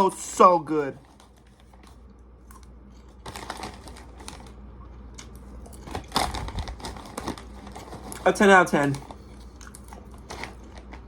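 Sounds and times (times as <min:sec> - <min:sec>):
popcorn crunching: 0:00.0 - 0:11.0.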